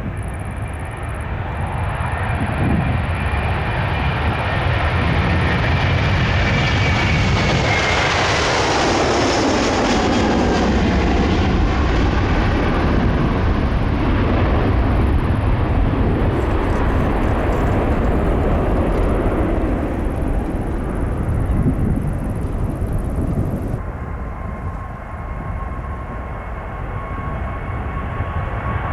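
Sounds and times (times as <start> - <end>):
jet airliner passing: 0.0 - 28.9.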